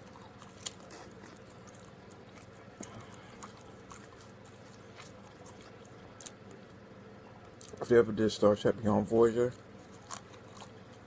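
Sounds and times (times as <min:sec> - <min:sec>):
chewing and mouth sounds: 0:00.0 - 0:07.8, 0:09.5 - 0:11.0.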